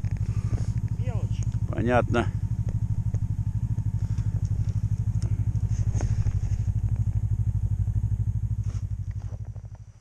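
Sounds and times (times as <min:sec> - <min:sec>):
snowmobile engine idling: 0:00.0 - 0:10.0.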